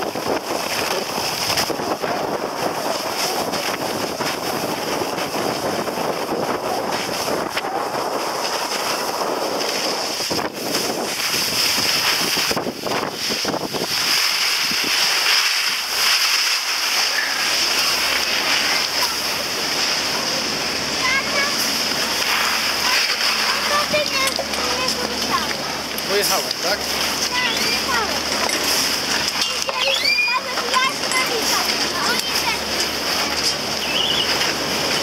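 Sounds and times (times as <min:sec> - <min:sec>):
skis hissing over snow: 0:00.0 - 0:35.0
wind rushing over microphone: 0:00.0 - 0:35.0.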